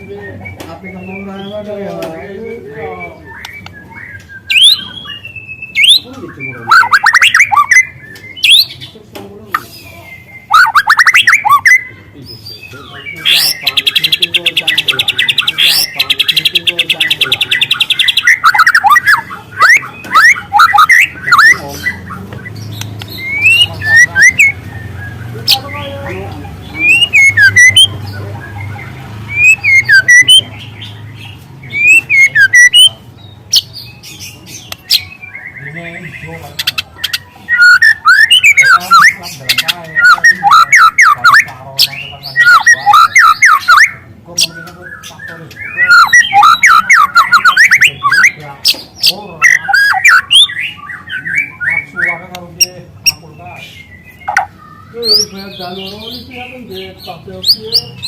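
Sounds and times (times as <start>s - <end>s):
bird singing trills and whistles: 0.0s - 58.0s.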